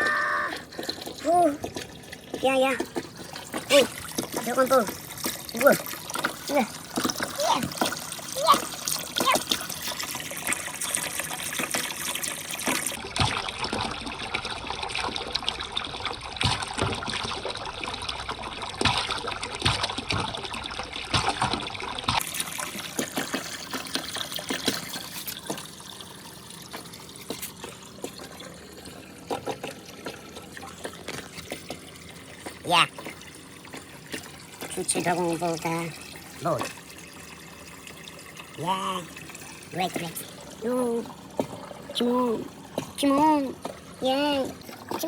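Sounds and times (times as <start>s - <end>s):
water trickling and splashing: 0.0s - 45.0s.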